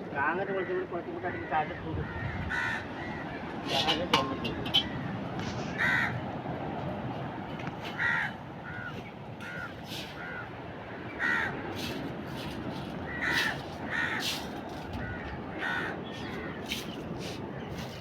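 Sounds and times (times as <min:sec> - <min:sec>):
birds cawing: 0:00.4 - 0:06.2, 0:07.9 - 0:12.1, 0:12.9 - 0:18.0.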